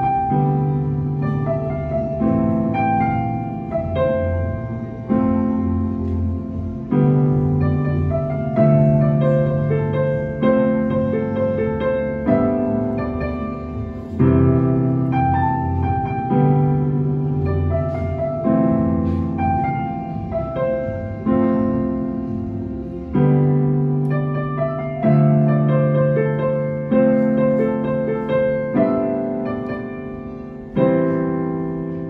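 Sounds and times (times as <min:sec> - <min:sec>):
slow piano melody and chords: 0:00.0 - 0:32.0.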